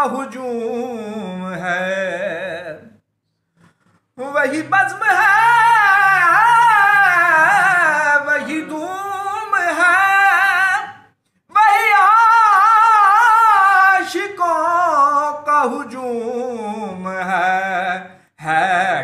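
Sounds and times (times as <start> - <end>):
man singing unaccompanied: 0.0 - 3.0, 4.2 - 19.0.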